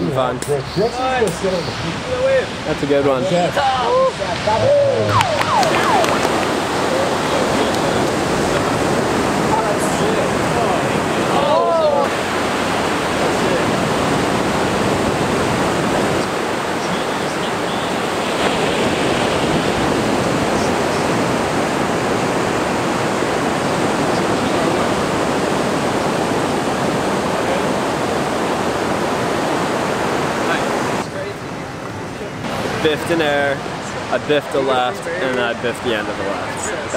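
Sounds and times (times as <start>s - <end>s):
ocean surf rushing: 0.0s - 36.9s.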